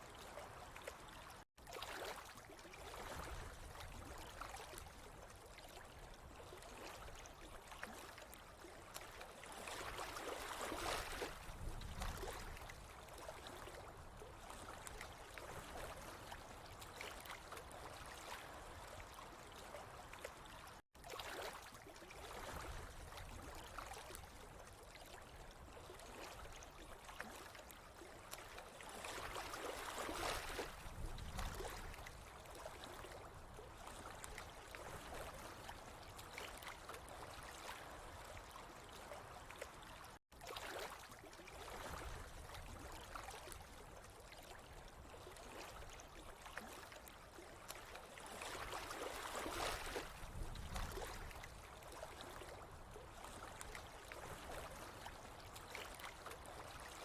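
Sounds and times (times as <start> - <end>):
water trickling and gurgling: 0.0 - 57.0.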